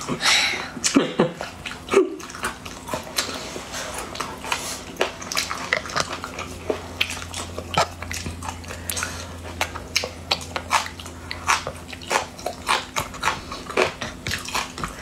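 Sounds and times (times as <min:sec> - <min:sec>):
crunchy chewing: 0:01.4 - 0:15.0.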